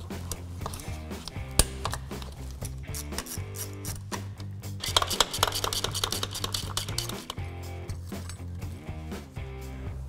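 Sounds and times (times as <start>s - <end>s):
music with steady bass line: 0.0s - 5.2s, 6.3s - 10.0s.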